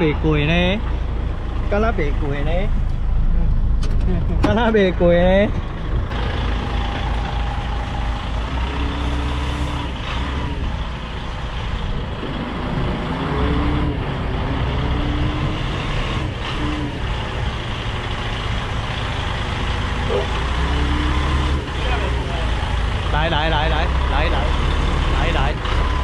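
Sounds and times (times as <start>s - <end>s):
diesel truck engine at low revs: 0.0s - 26.0s.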